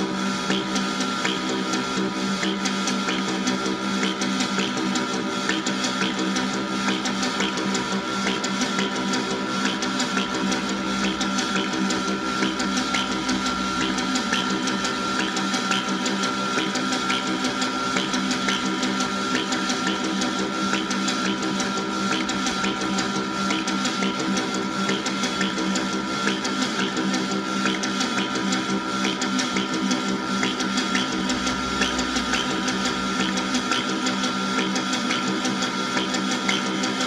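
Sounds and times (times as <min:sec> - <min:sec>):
synthesizer drone: 0:00.0 - 0:37.0.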